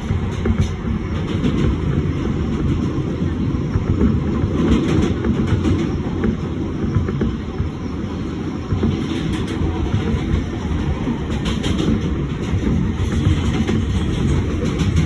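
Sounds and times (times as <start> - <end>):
train clicks and clacks: 0.0 - 15.0
train wheels rumbling on rails: 0.0 - 15.0.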